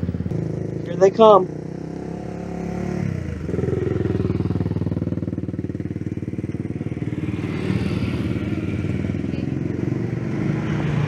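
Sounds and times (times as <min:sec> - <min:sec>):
off-road vehicle engines: 0:00.0 - 0:11.0
rapidly pulsing engine: 0:00.0 - 0:11.0.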